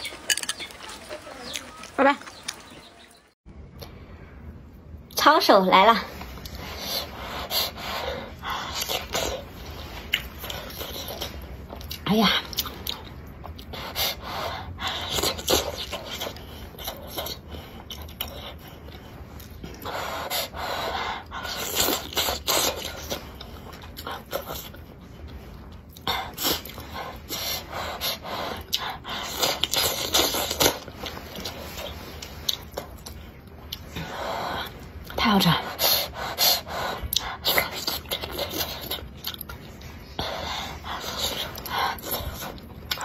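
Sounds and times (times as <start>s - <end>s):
person slurping and chewing: 6.4s - 43.0s.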